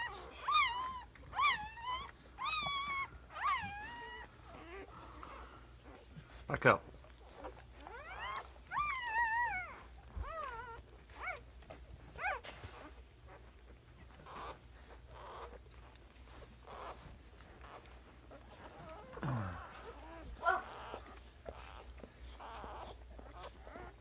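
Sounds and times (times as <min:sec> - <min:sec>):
puppies whimpering and squealing: 0:00.0 - 0:24.0.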